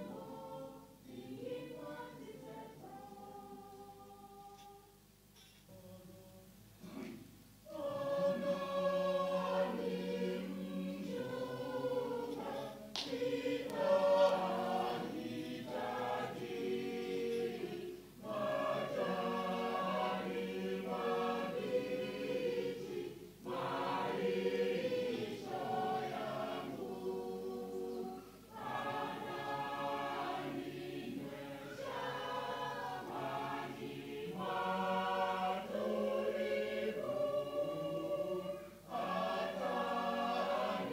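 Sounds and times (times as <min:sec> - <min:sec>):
choir singing a hymn: 0:00.0 - 0:05.0, 0:05.7 - 0:40.9.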